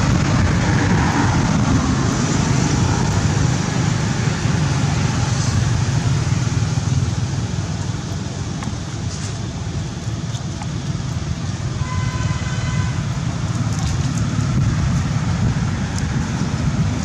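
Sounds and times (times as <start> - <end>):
steady low rumbling: 0.0 - 17.0.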